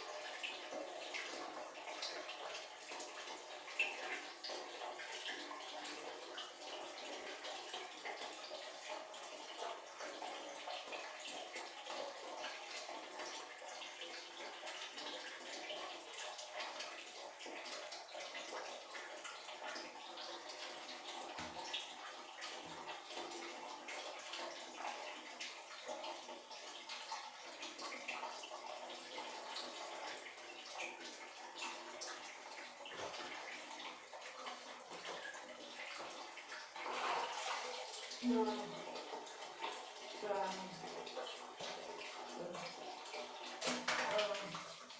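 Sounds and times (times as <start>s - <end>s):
water running in bathroom: 0.0s - 44.9s.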